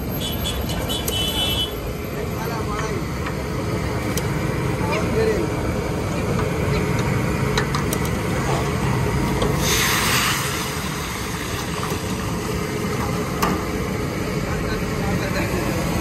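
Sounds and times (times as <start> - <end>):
gas burner noise: 0.0 - 16.0
loud hiss of flames flaring: 1.1 - 16.0
fish deep-frying sizzle: 2.9 - 16.0.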